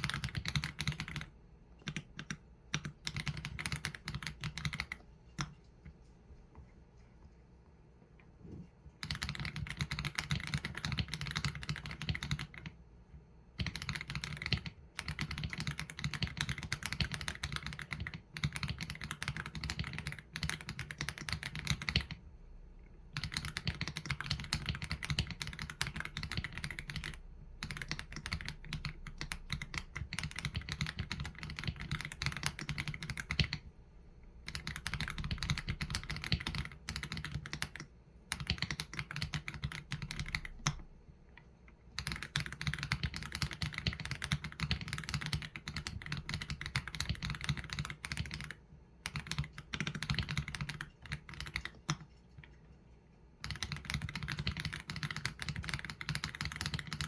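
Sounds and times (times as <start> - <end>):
fast typing on mechanical keyboard: 0.0 - 5.5, 9.0 - 12.8, 13.5 - 22.2, 23.1 - 33.7, 34.4 - 40.9, 42.0 - 52.6, 53.4 - 57.0.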